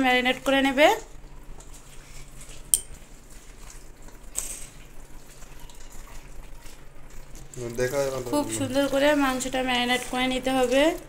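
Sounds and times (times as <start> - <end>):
hand squishing meat in paste: 1.1 - 10.8.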